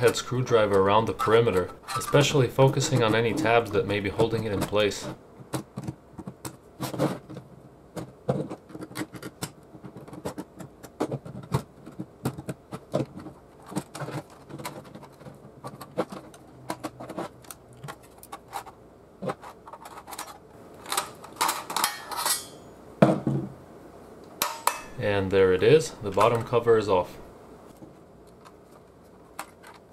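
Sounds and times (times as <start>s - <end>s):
clicks knocks and scrapes: 0.0s - 22.5s, 27.7s - 29.9s.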